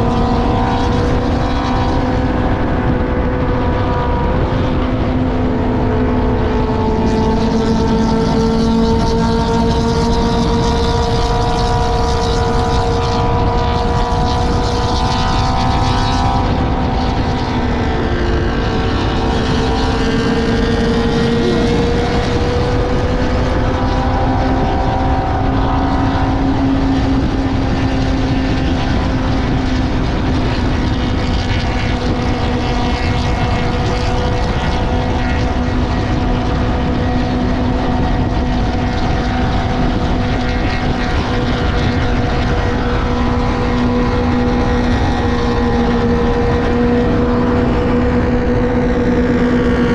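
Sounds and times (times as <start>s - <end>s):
motorcycle engine cruising: 0.0s - 49.9s
wind noise: 0.0s - 49.9s.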